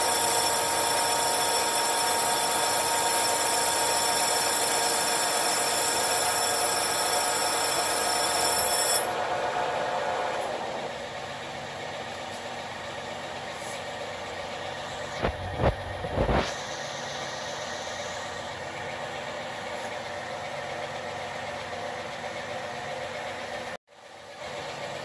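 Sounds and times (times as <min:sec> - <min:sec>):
lathe cutting noise: 0:00.0 - 0:22.6
lathe running: 0:00.0 - 0:23.8.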